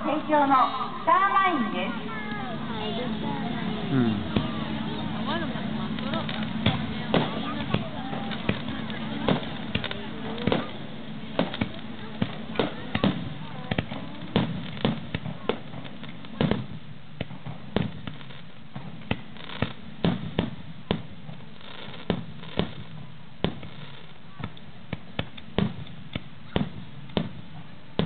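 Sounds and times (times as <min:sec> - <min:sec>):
firework bangs: 0:00.0 - 0:28.0.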